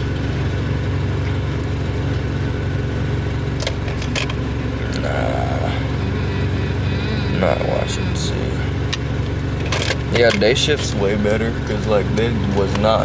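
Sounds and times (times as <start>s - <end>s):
car engine humming inside cabin: 0.0s - 13.0s.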